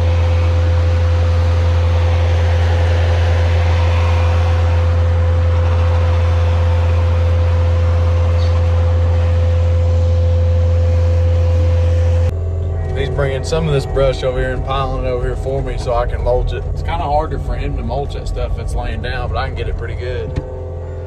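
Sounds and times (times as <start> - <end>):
skid steer engine drone and whine: 0.0 - 21.0.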